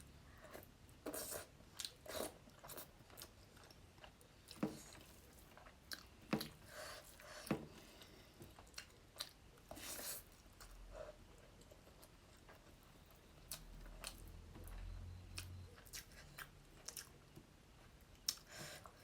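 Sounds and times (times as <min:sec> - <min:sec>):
person chewing food: 0:00.1 - 0:19.0.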